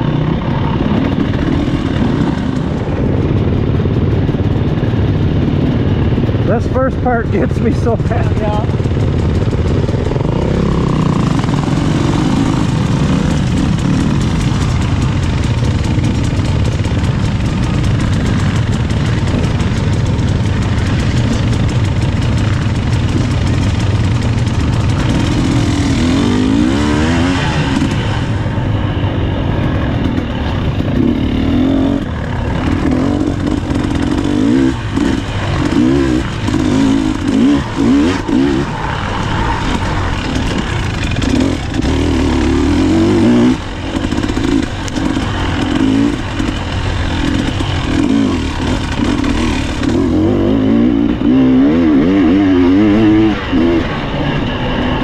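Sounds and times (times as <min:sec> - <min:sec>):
bike rattling: 0:00.0 - 0:55.0
dirt bike engine revving: 0:00.0 - 0:55.0.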